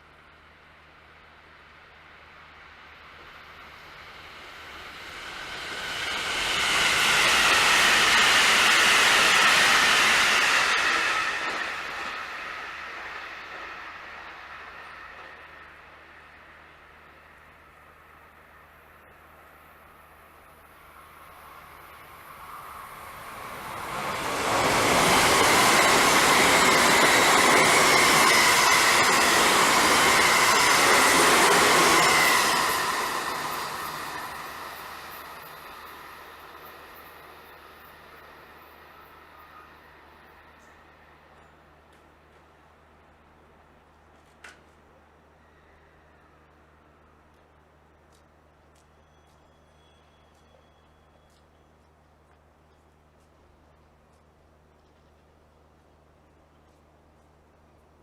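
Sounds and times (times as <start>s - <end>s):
train passing: 0.0s - 58.0s
wheels rushing on rail: 0.0s - 58.0s.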